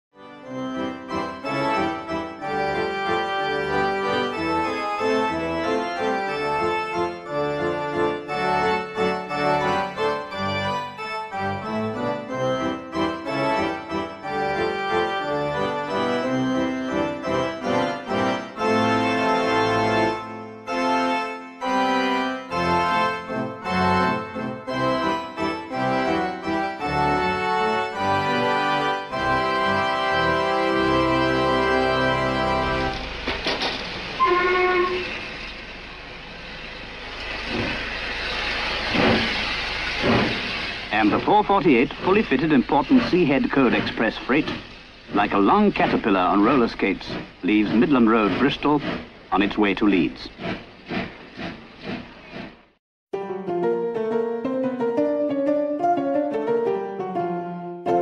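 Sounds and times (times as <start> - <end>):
organ-like keyboard music: 0.1 - 35.0, 40.9 - 50.3, 53.1 - 58.0.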